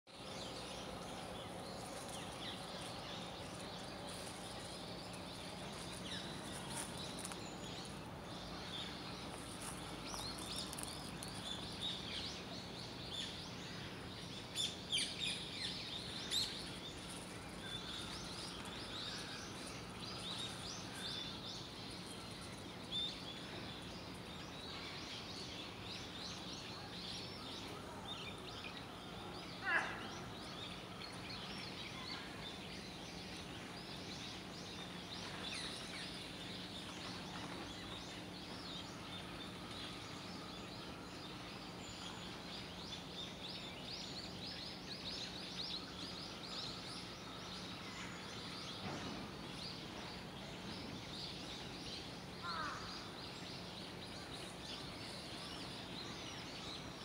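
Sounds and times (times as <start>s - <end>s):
low background hum: 0.1s - 57.0s
small birds twittering: 0.1s - 57.0s.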